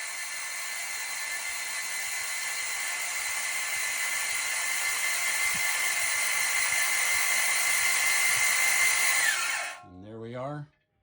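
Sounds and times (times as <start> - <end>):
starter motor whine: 0.0 - 9.8.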